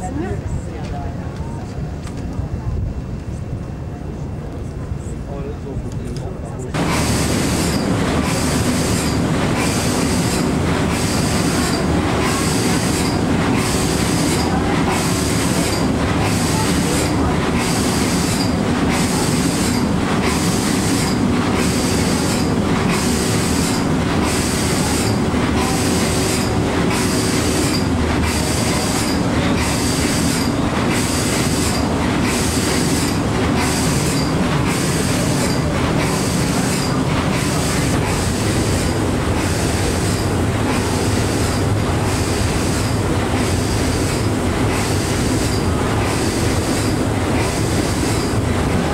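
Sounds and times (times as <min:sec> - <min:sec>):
steam engine hissing beat: 0:06.8 - 0:48.9.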